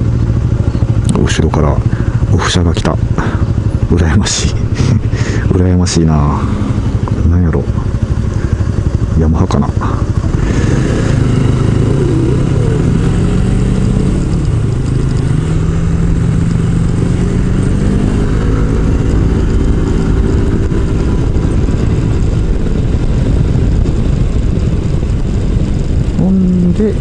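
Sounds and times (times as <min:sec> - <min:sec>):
scooter engine running: 0:00.0 - 0:27.0
wind rumble on microphone: 0:00.0 - 0:27.0.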